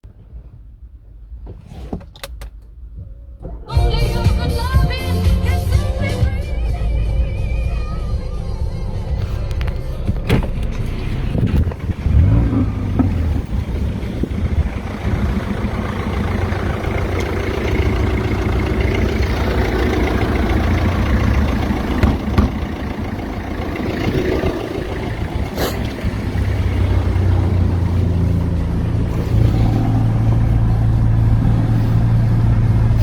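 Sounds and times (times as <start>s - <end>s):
car engine running: 2.6s - 33.0s.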